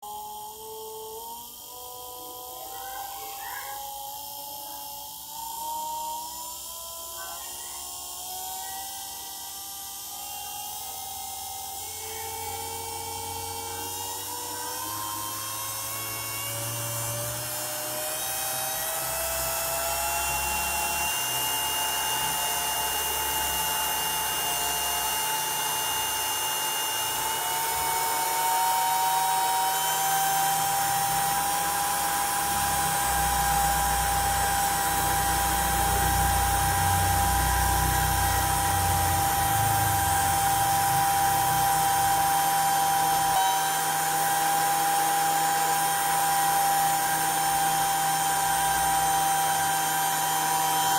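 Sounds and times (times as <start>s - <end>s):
electric motor whining: 0.0s - 50.9s.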